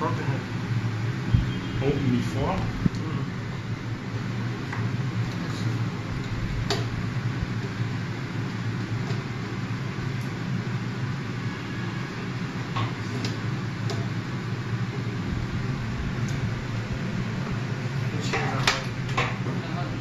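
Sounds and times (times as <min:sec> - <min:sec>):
blower fan hum: 0:00.0 - 0:20.0.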